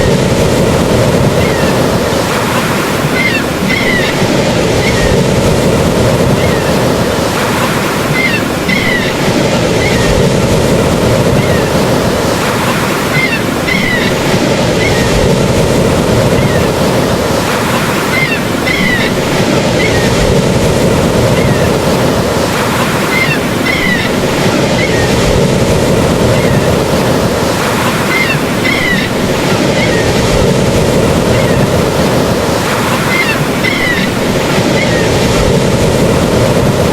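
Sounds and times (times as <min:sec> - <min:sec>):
ocean surf: 0:00.0 - 0:36.9.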